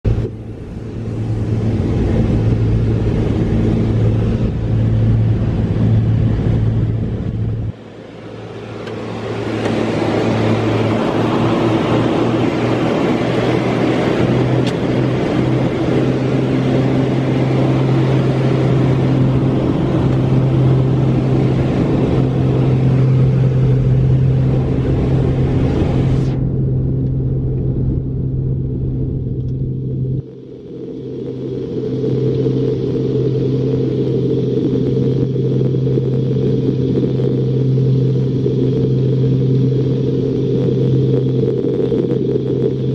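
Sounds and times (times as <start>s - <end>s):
aircraft engines droning: 0.0s - 42.9s.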